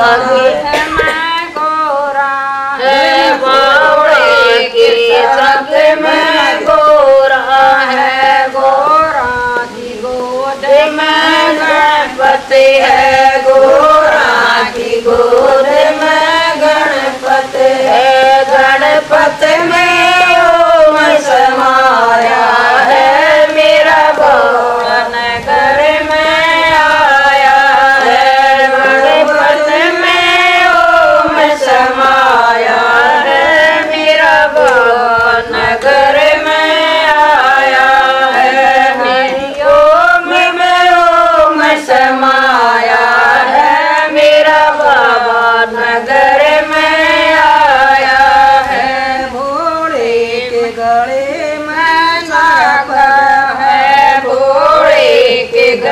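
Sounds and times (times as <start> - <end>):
women singing together: 0.0 - 55.9.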